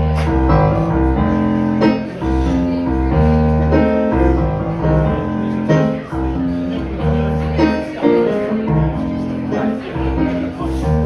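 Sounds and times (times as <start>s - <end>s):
low bass line: 0.0s - 11.0s
piano-style keyboard chords: 0.0s - 11.0s.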